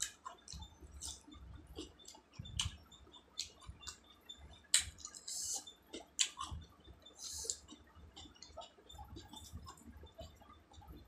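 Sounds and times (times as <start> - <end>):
licking and sucking fingers: 0.0 - 11.0.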